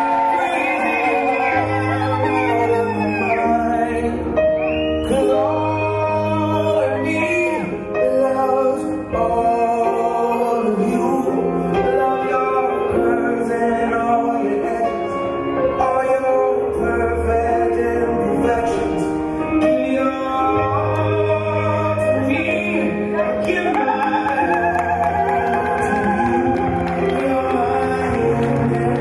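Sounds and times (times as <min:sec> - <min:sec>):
person singing: 0:00.0 - 0:29.0.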